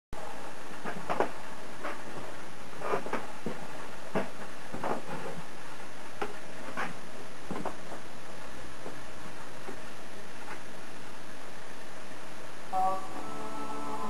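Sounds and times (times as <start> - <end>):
steady hiss: 0.2 - 14.0.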